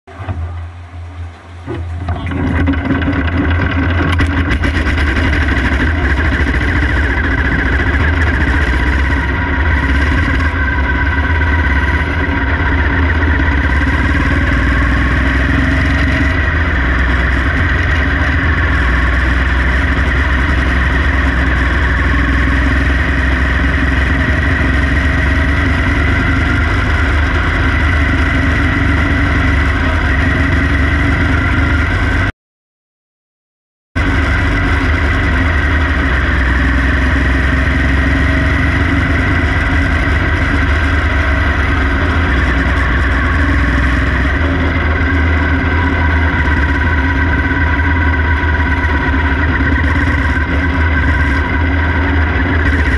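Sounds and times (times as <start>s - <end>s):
small race car engine running: 0.1s - 32.3s, 34.0s - 52.9s.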